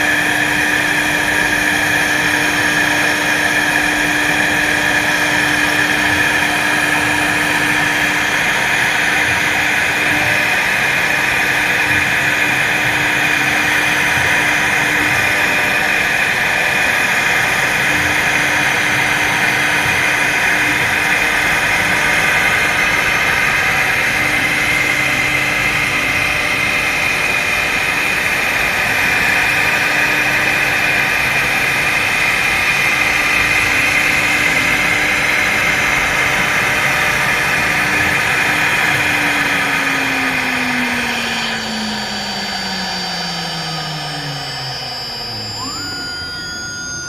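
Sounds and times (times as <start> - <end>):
cnc router whine and hum: 0.0 - 47.0.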